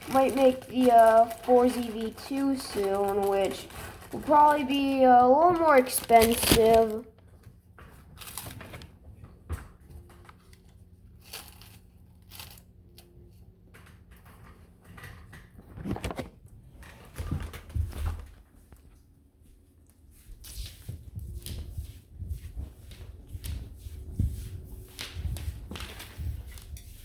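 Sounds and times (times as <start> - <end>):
rustles and crinkles: 0.0 - 27.0.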